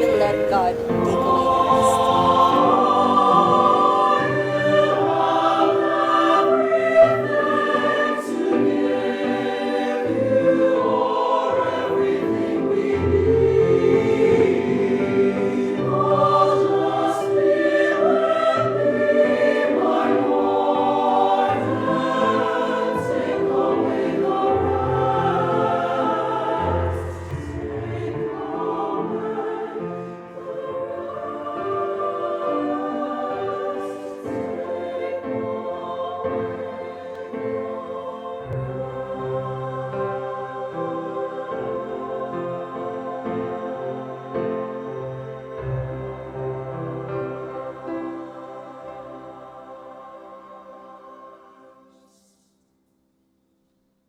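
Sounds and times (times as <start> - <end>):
choir singing a hymn: 0.0 - 52.5.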